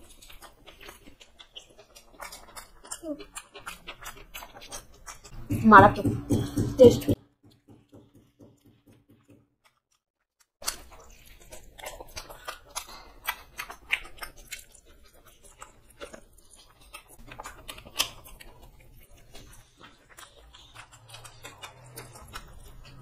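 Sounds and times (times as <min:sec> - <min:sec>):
chewing and eating: 0:00.0 - 0:23.0.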